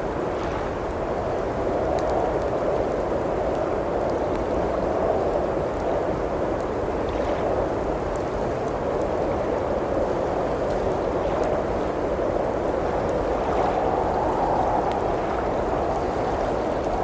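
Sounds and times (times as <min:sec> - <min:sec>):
blizzard wind: 0:00.0 - 0:17.0.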